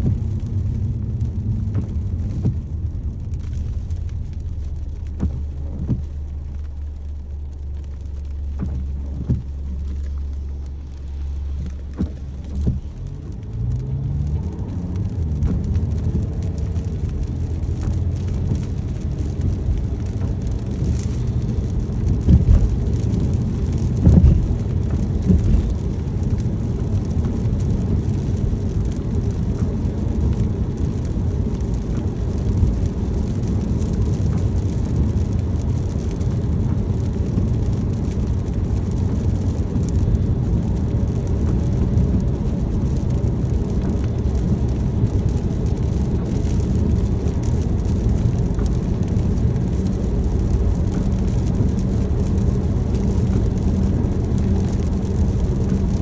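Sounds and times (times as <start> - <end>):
low road rumble: 0.0 - 56.0
rain ticking on car: 0.0 - 56.0
car engine pulling away: 0.1 - 56.0.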